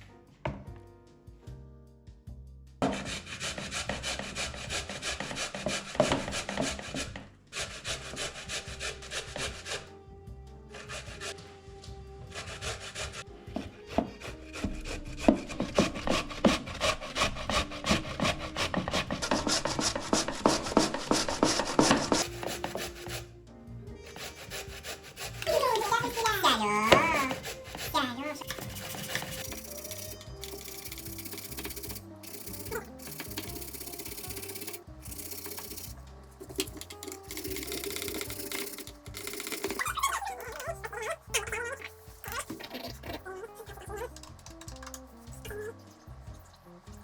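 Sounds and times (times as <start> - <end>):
food grating on hand grater: 2.8 - 9.9, 10.7 - 11.4, 12.2 - 23.3, 24.1 - 45.8.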